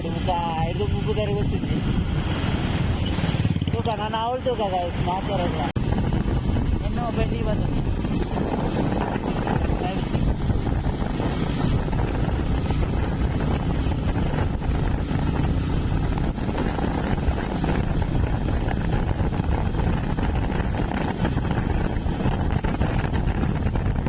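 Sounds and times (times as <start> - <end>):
motorcycle rumble: 0.0 - 24.0
wind rushing over microphone: 0.0 - 24.0.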